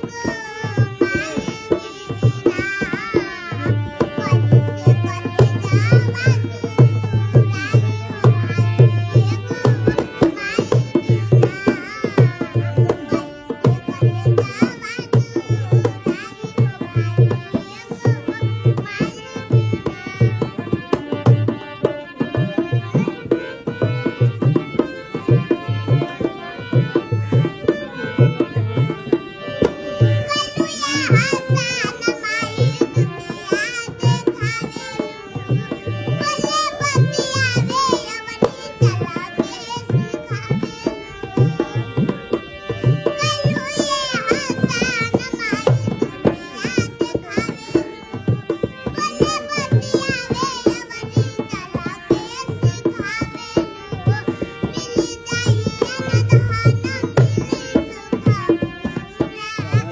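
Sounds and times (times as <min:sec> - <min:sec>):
high voice singing: 0:00.0 - 0:21.1, 0:21.8 - 0:59.9.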